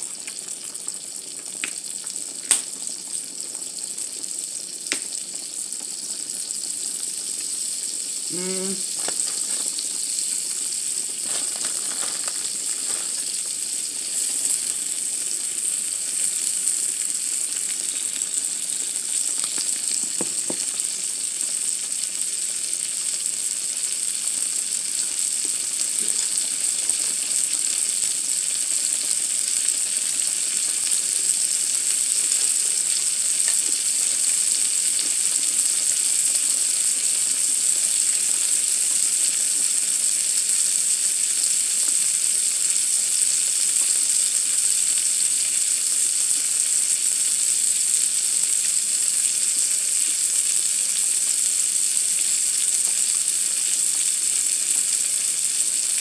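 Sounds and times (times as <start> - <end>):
food sizzling on grill plate: 0.0 - 56.0.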